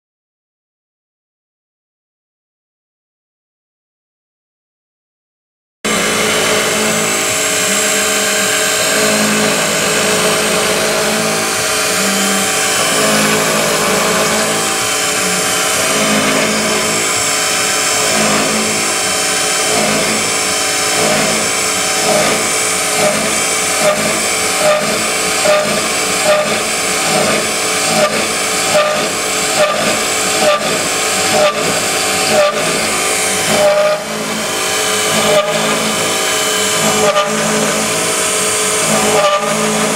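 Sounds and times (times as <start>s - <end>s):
mill spindle cutting metal: 5.9s - 39.9s.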